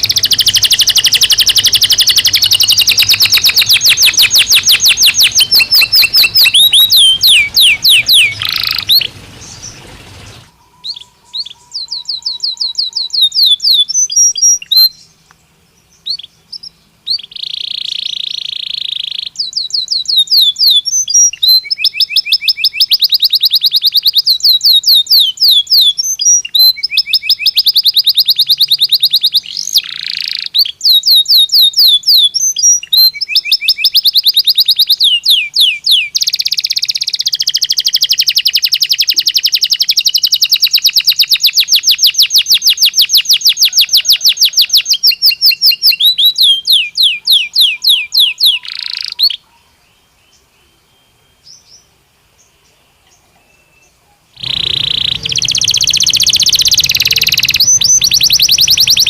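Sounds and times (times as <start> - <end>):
canary singing trills: 0.0 - 15.2, 15.8 - 59.0.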